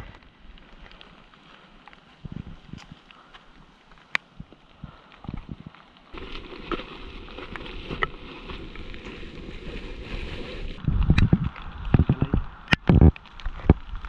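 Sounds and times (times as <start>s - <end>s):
wind and handling on microphone: 0.0s - 14.0s.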